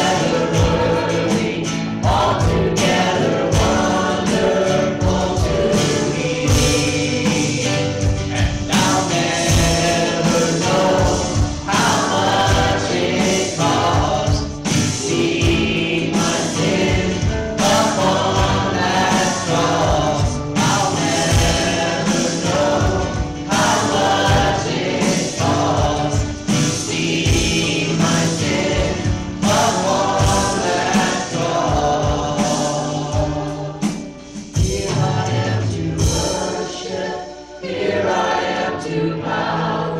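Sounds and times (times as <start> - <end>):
band playing with steady beat: 0.0 - 39.8
group singing worship song: 0.0 - 39.9.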